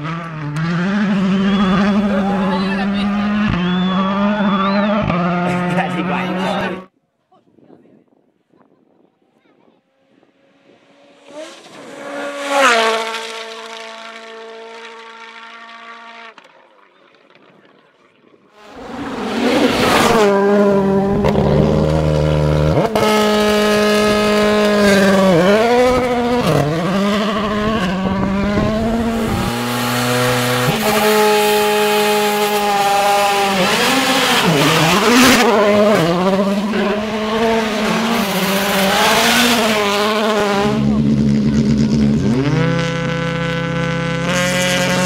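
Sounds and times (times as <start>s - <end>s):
rally car engine revving: 0.0s - 6.9s, 10.2s - 16.4s, 18.6s - 45.0s.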